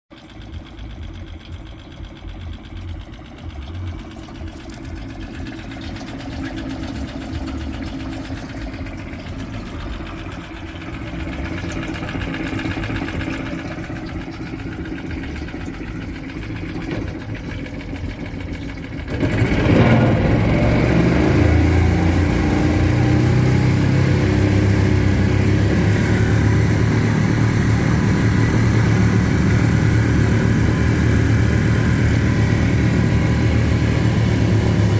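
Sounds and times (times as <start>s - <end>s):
outboard motor idling: 0.1s - 34.9s.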